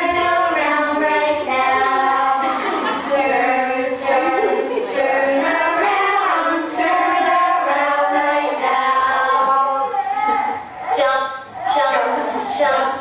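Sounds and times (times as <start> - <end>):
voices singing children's song: 0.0 - 13.0.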